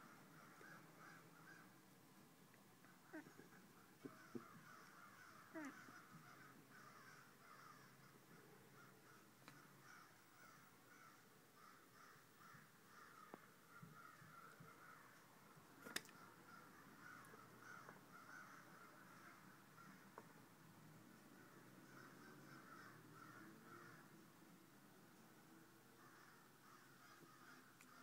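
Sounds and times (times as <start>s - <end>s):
crows cawing: 0.0s - 1.8s, 3.0s - 15.3s, 16.1s - 20.2s, 21.3s - 24.2s, 25.9s - 28.0s.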